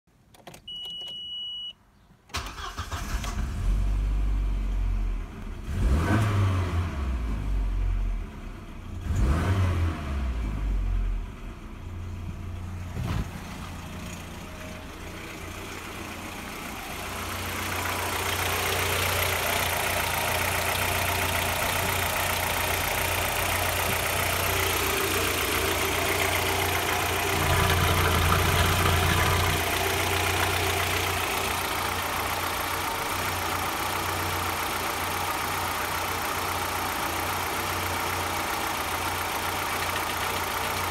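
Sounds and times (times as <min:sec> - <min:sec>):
car engine starting and idling: 0:02.3 - 0:40.9.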